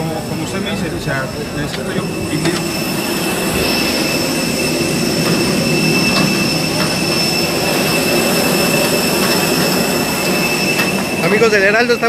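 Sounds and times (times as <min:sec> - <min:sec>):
jet airliner rumble and whine: 0:00.0 - 0:12.0.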